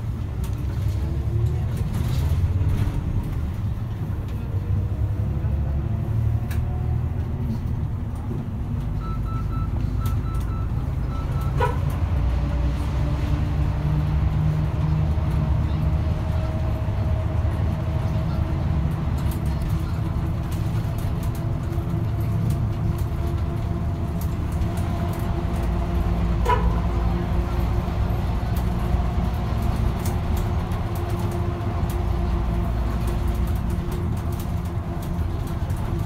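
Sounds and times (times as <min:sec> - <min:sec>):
bus engine and road noise: 0:00.0 - 0:36.0.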